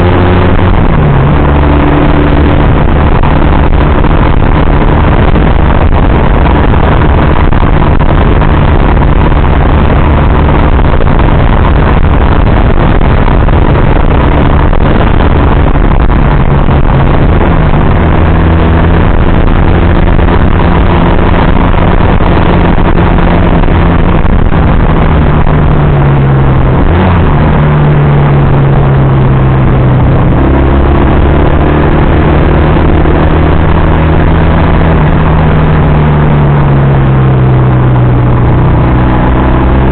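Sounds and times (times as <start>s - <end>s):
motorcycle engine running: 0.0s - 39.9s
wind roaring over microphone: 0.0s - 39.9s.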